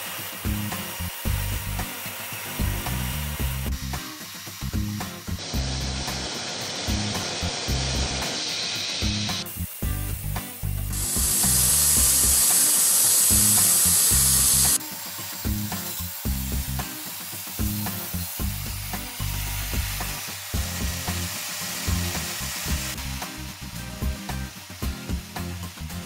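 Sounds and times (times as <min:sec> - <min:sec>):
background music with steady beat: 0:00.0 - 0:26.0
band saw blade cutting log: 0:00.0 - 0:26.0.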